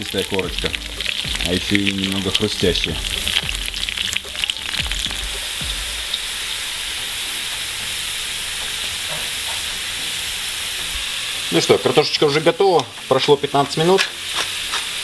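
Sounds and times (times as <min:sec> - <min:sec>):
oil crackling: 0:00.0 - 0:15.0
potatoes sizzling in hot oil: 0:00.0 - 0:15.0.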